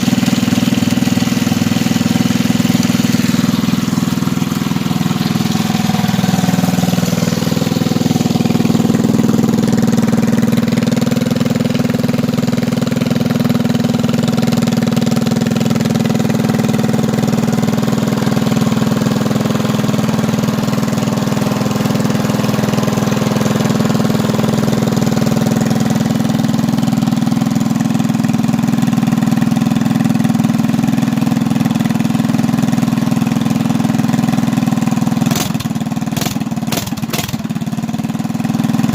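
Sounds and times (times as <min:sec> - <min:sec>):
mini bike engine running: 0:00.0 - 0:38.9.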